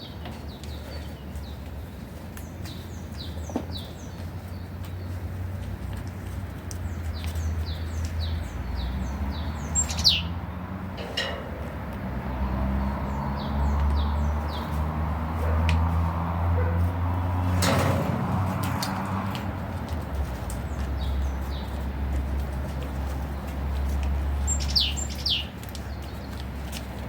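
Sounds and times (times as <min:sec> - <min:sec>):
songbird singing: 0:00.0 - 0:16.8, 0:20.2 - 0:27.0.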